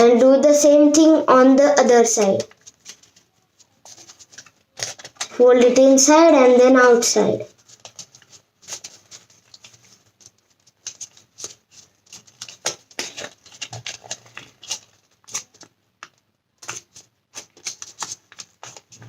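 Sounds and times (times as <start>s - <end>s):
paper being folded and creased: 2.4s - 6.8s, 7.5s - 19.0s.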